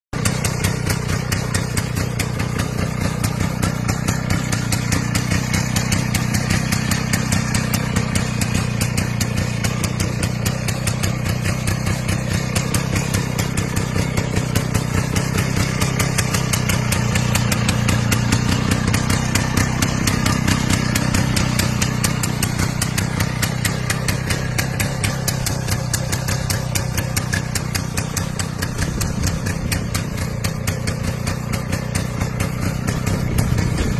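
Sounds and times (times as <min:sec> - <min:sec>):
two-stroke motorcycle engine idling: 0:00.1 - 0:33.9.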